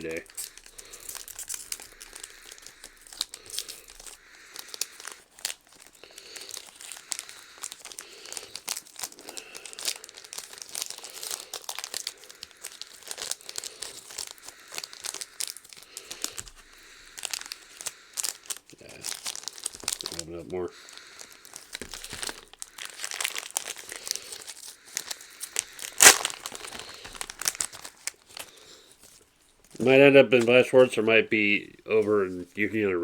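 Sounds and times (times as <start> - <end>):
card pack wrappers crinkling and tearing: 0.0 - 31.2.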